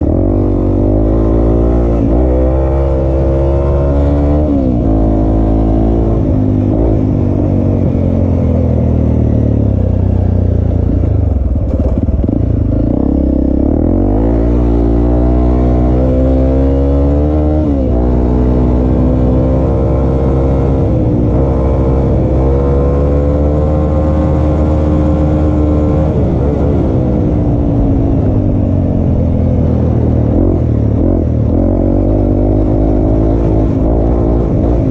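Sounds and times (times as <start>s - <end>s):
vehicle engine accelerating: 0.0s - 34.9s.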